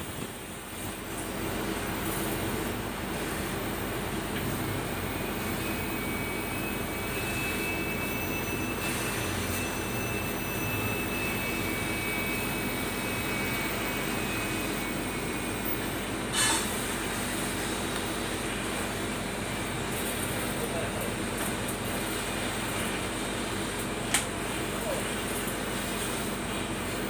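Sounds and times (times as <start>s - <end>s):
cutting torch hissing: 0.0s - 27.0s.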